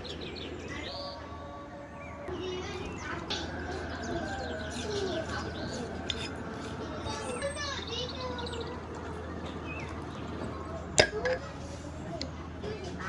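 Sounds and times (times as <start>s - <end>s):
dove cooing: 0.0s - 12.1s
birds chirping: 0.0s - 13.0s
soft background music: 0.0s - 13.0s
steady low hum: 0.0s - 13.0s.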